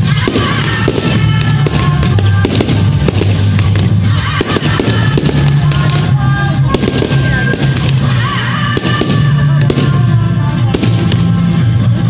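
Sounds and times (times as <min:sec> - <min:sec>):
fireworks bangs and crackles: 0:00.0 - 0:12.0
loud music: 0:00.0 - 0:12.0.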